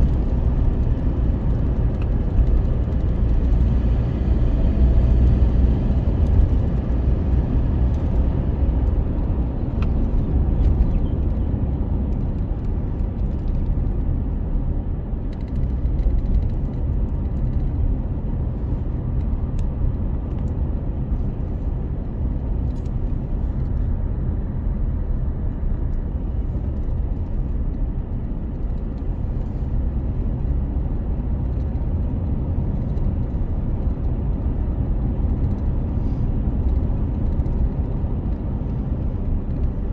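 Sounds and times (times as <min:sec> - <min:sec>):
vehicle engine low rumble: 0:00.0 - 0:39.9.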